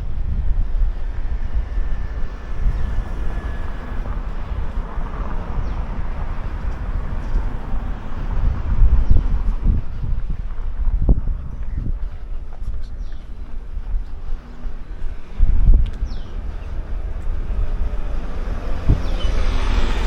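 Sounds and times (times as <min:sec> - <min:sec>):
faint vehicle passing: 0:00.0 - 0:20.0
outdoor noise: 0:00.0 - 0:20.0
thin steady whine: 0:00.0 - 0:20.0
wind buffeting microphone: 0:00.0 - 0:20.0.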